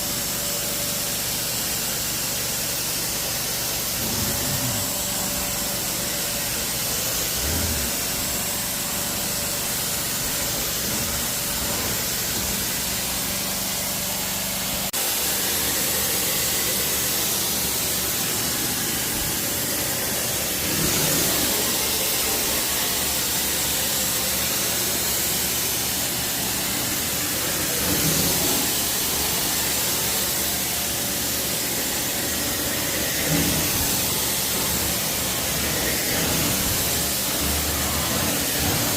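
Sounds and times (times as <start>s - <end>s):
carpet cleaning wand hiss: 0.0s - 38.9s
low machine hum: 3.2s - 38.9s.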